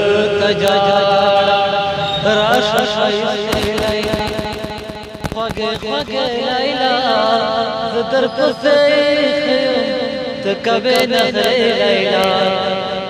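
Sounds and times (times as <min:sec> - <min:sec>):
man singing into microphone: 0:00.0 - 0:04.5, 0:05.3 - 0:13.0.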